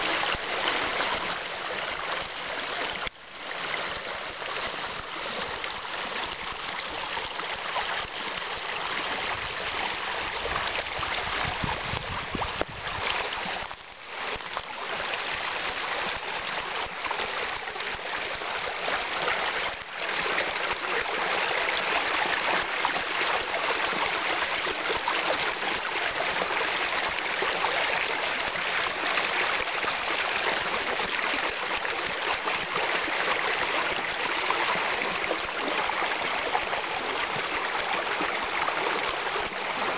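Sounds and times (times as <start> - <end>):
stream rushing over waterfall: 0.0 - 39.9.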